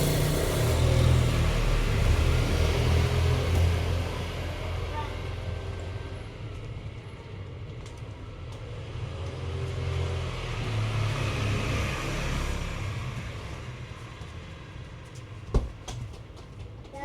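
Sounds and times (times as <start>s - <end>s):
vehicle engine humming: 0.0s - 15.5s.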